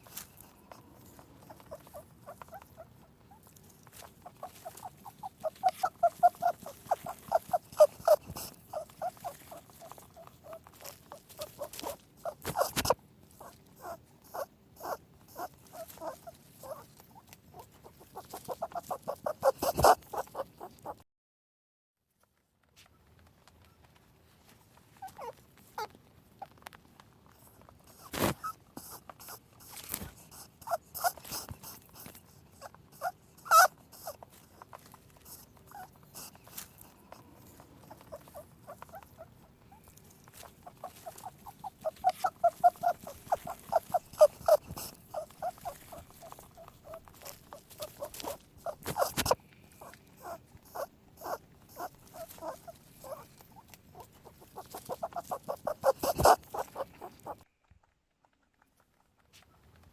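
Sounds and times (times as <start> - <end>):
rustling: 0.0 - 21.0, 22.2 - 59.9
small animal chirping calls: 0.0 - 21.0, 25.0 - 25.9, 27.9 - 57.6.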